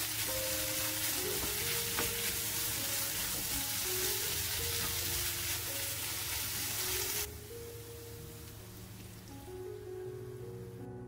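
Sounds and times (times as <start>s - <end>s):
vegetables sizzling in oil: 0.0s - 9.6s
soft background music: 0.0s - 11.0s.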